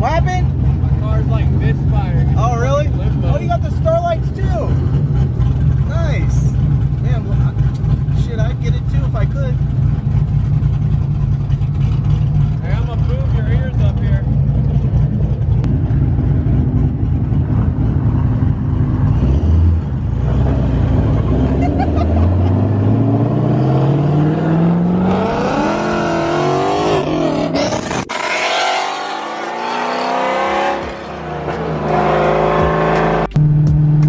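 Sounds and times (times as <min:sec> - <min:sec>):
sports car engines accelerating: 0:00.0 - 0:34.0.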